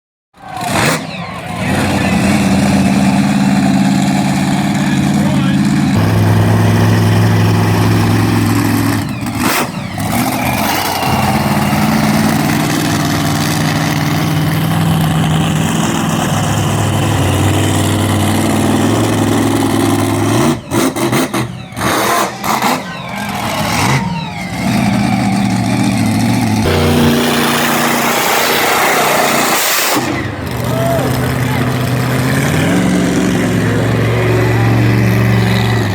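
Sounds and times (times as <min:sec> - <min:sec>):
monster truck engine revving: 0:00.4 - 0:35.9.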